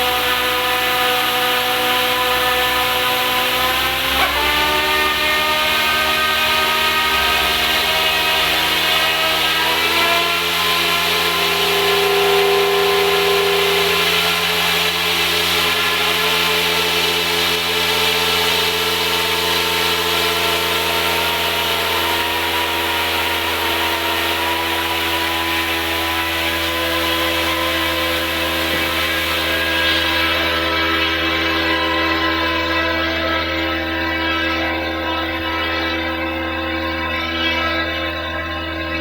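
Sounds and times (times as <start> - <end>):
rotor hiss: 0.0 - 32.5
model helicopter motor whine: 0.0 - 39.0.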